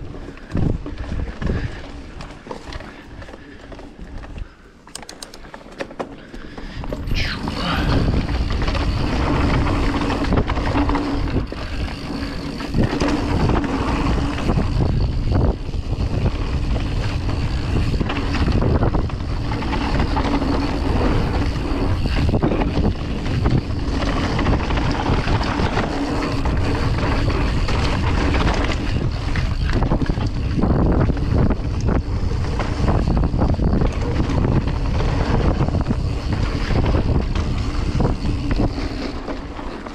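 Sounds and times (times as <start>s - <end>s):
wind buffeting microphone: 0.0s - 4.5s, 6.5s - 39.9s
bike knocks and rattles: 0.0s - 39.9s
bike tyres rolling on dirt: 0.0s - 39.9s.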